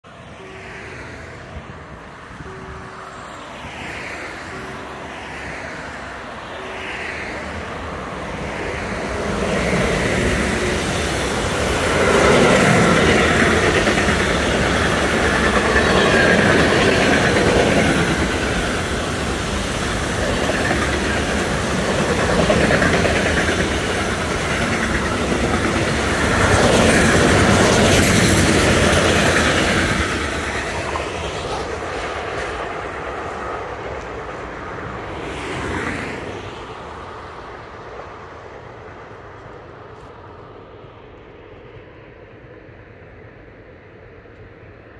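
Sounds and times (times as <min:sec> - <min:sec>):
freight train wheels on rails: 0:00.1 - 0:44.9.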